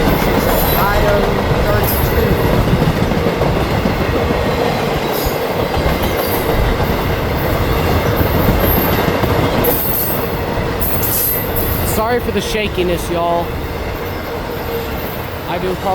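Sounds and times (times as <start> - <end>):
freight train wheels rumbling: 0.0 - 15.9.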